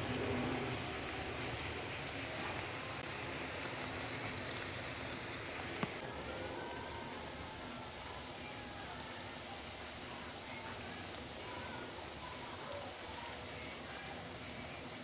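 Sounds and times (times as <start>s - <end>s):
bananas sizzling in hot oil: 0.0s - 15.0s.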